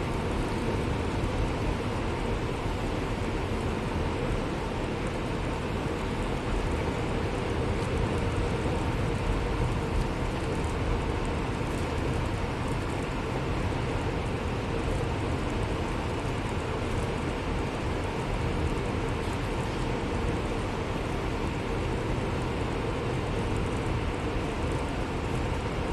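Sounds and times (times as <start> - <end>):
bus engine and road rumble: 0.0 - 25.9
faint steady hum: 0.0 - 25.9.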